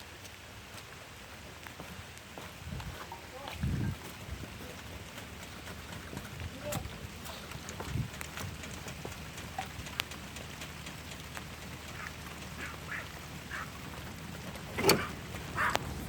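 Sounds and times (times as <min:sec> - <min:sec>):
raindrops ticking on surface: 0:00.0 - 0:16.0
steady rain falling: 0:00.0 - 0:16.0.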